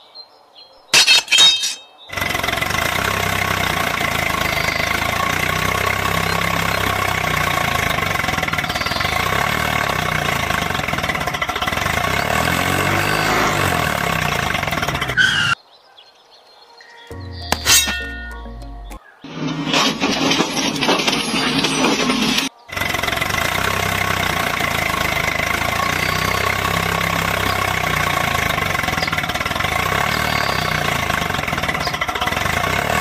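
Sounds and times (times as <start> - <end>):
tractor engine running: 1.6 - 15.6, 17.2 - 33.0.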